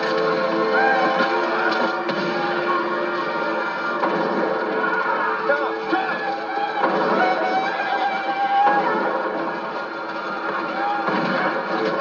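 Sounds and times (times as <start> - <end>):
film music with sustained tones: 0.0 - 12.0.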